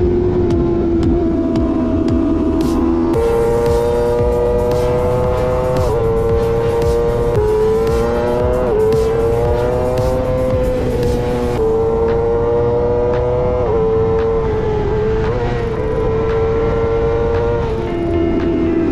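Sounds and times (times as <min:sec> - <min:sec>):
racing motorcycle engine revving: 0:00.0 - 0:18.9.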